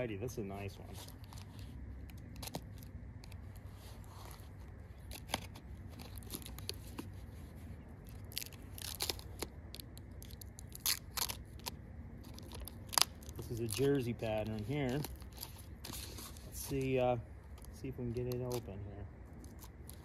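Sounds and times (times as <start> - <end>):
low steady rumble: 0.0 - 20.0
paper crinkling and tearing: 0.6 - 20.0.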